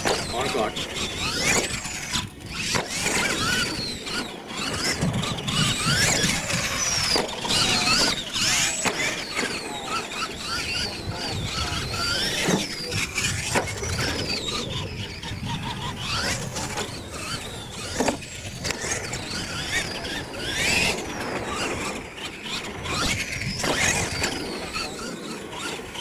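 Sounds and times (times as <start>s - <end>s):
rc truck motor whining: 0.0s - 26.0s.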